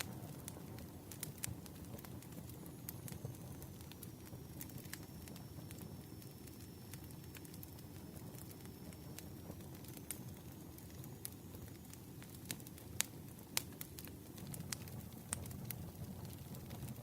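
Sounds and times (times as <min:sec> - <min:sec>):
campfire burning: 0:00.0 - 0:17.0.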